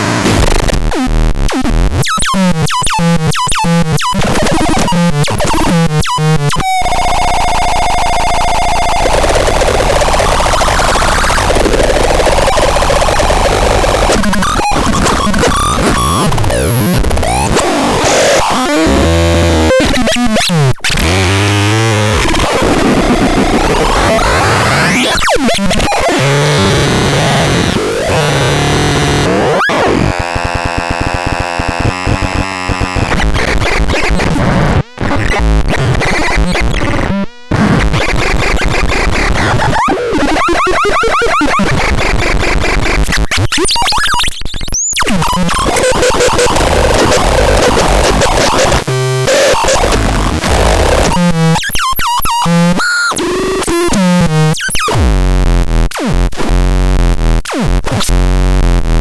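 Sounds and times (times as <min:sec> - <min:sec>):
harsh glitchy electronic noise: 0:00.0 - 0:58.9.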